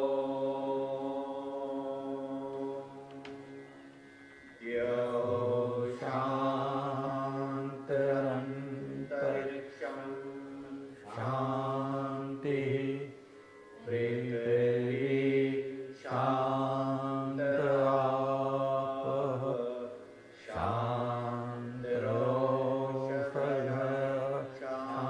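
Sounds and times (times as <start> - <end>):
mantras chanted: 0.0 - 25.0.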